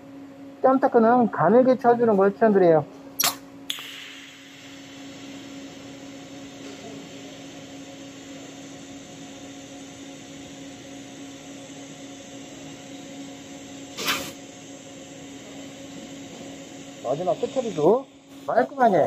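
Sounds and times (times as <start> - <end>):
welding arc hissing and humming: 3.2 - 19.0.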